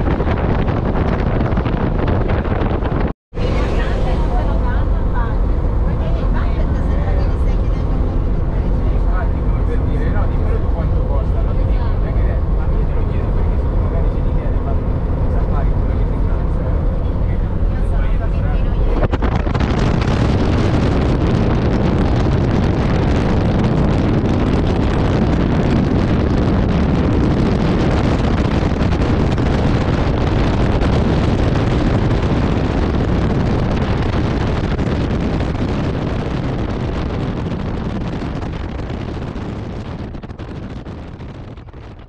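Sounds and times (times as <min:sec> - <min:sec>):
vehicle running: 0:00.0 - 0:42.0
wind buffeting microphone: 0:00.0 - 0:42.0.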